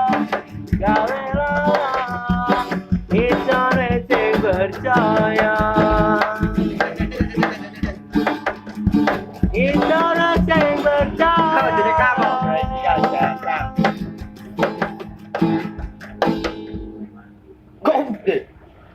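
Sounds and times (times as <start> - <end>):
drum beats: 0.0 - 17.2
plucked strings: 0.0 - 17.7.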